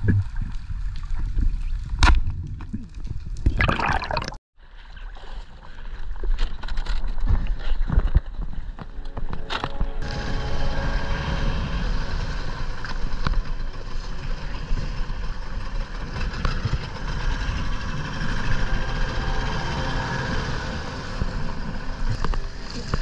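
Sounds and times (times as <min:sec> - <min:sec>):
wind: 0:00.0 - 0:03.7, 0:04.6 - 0:23.0.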